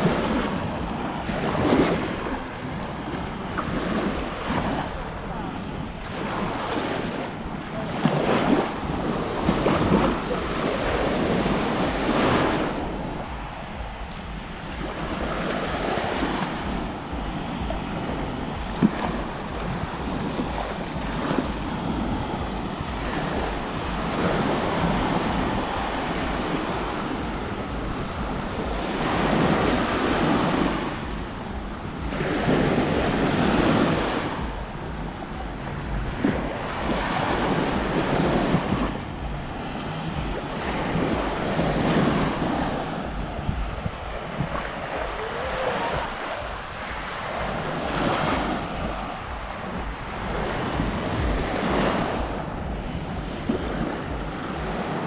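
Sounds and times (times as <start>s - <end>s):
sea waves breaking on shore: 0.0s - 55.0s
wind rumble on microphone: 0.0s - 55.0s.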